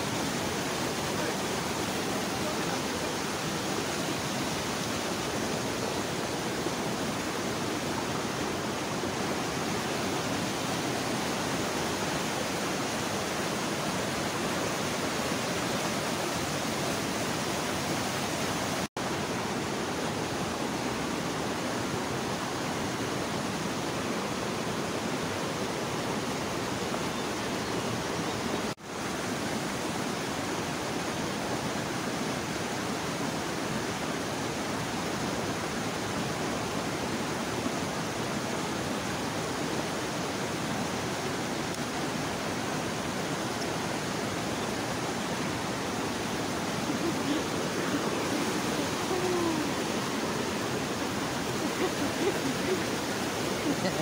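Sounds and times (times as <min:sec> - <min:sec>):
white water rushing: 0:00.0 - 0:54.0.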